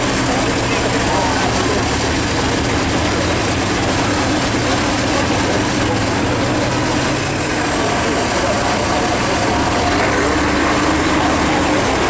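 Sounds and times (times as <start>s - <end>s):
truck engines running: 0.0s - 12.0s.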